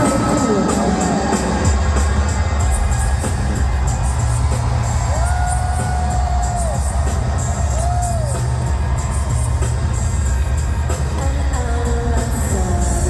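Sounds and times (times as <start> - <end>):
crowd murmuring and whooping: 0.0 - 13.0
pop music over sound system: 0.0 - 13.0.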